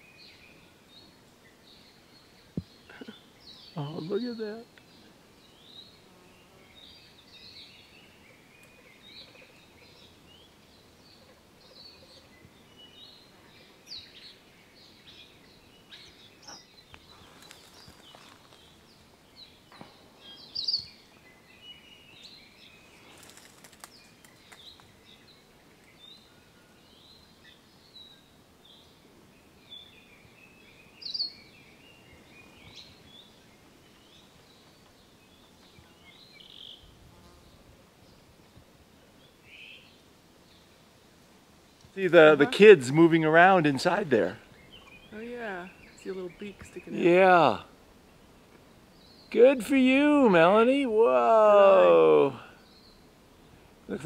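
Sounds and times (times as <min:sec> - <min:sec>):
birds chirping and singing: 0:00.0 - 0:36.9, 0:41.8 - 0:53.1.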